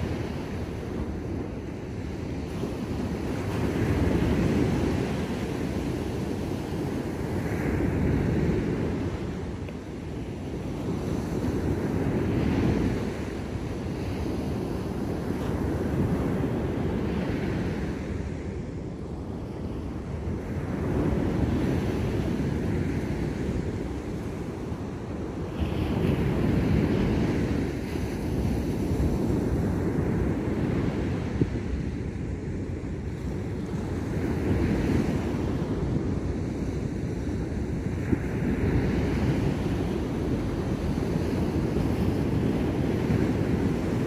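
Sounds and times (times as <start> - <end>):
ocean waves breaking on beach: 0.0 - 44.0.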